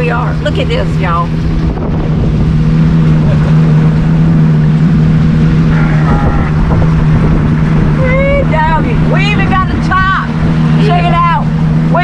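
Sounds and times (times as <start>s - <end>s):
motorboat engine humming: 0.0s - 12.0s
wind and water rushing: 0.0s - 12.0s.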